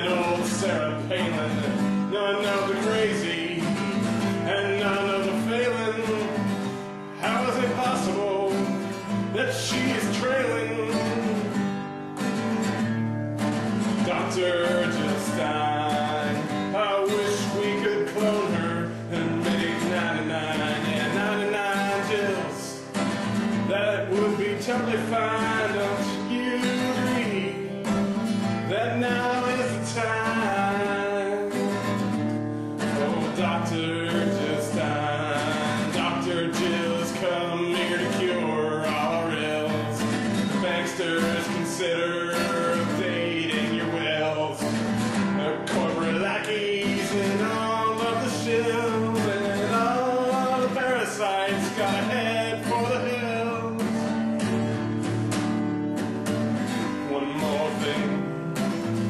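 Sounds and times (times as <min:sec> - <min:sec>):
man singing: 0:00.0 - 0:11.7, 0:13.4 - 0:32.2, 0:32.8 - 0:55.3, 0:56.7 - 0:59.0
acoustic guitar strumming: 0:00.0 - 0:59.0.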